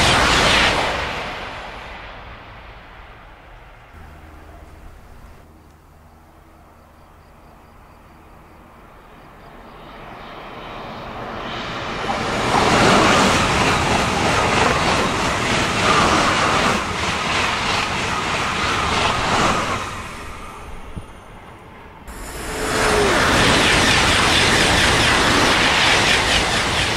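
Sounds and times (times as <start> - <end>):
high-speed train passing: 0.0 - 26.9.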